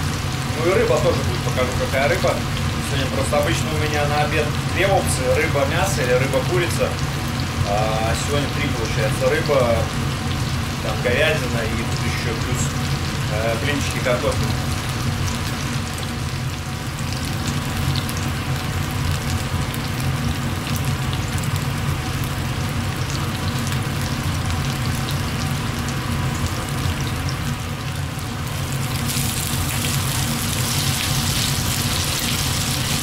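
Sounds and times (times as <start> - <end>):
pancakes sizzling in oil: 0.0 - 33.0.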